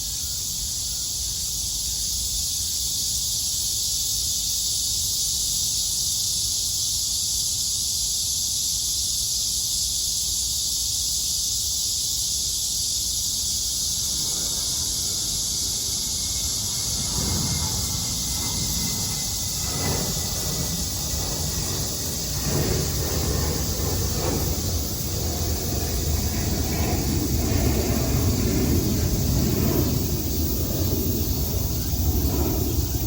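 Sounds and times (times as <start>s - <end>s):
cicadas droning: 0.0s - 33.0s.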